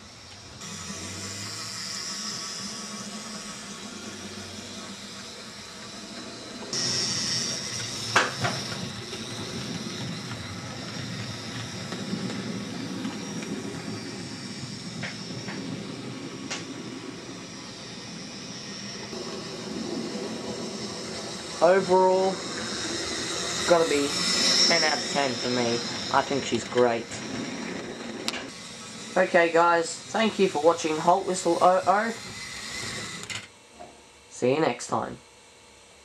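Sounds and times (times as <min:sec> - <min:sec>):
model train motor whir: 0:00.0 - 0:33.5.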